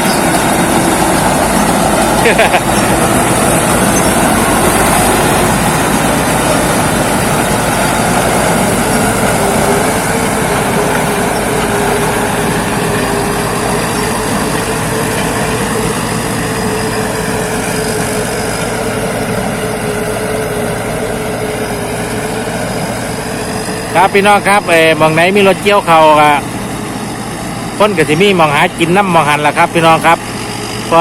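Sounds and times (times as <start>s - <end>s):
combine harvester running: 0.0s - 31.0s
steady whine: 0.0s - 31.0s.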